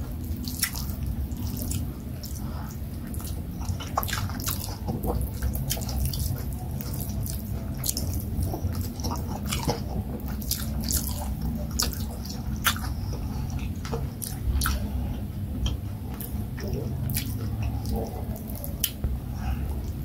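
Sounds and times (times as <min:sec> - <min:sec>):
wet chewing and mouth clicks: 0:00.0 - 0:20.0.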